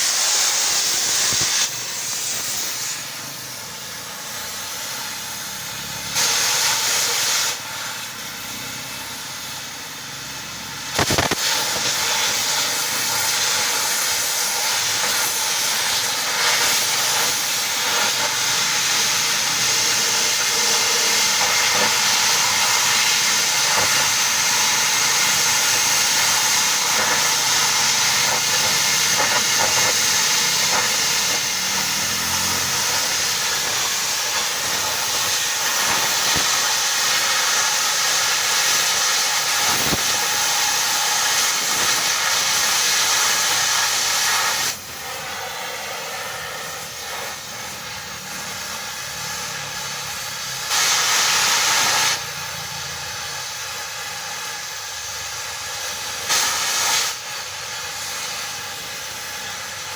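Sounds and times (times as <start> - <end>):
steady loud hiss: 0.0 - 59.9.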